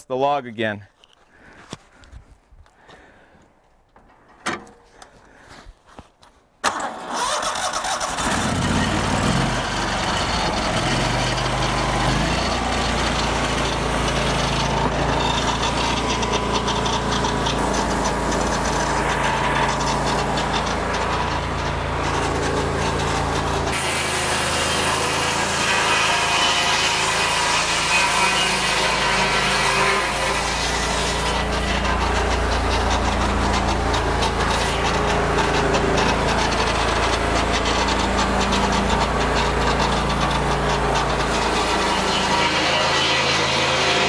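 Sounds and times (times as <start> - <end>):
sawmill petrol engine running: 6.6 - 44.0.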